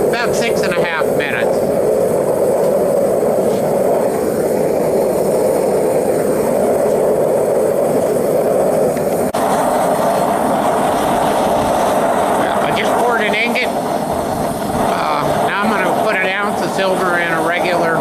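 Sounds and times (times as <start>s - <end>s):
propane torch roaring: 0.0s - 18.0s.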